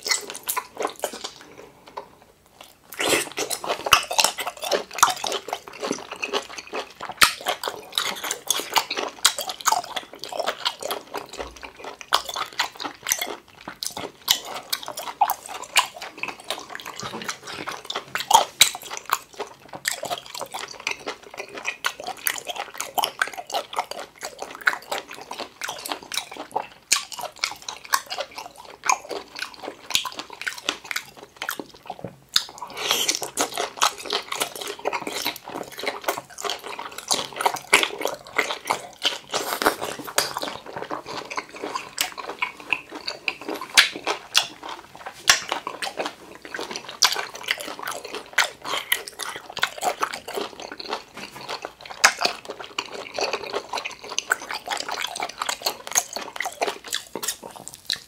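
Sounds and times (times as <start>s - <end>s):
wet chewing and mouth clicks: 0.0s - 58.0s.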